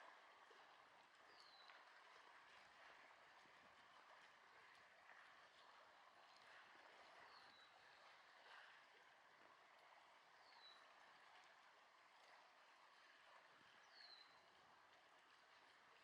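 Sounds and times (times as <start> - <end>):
faint outdoor noise: 0.0 - 16.0.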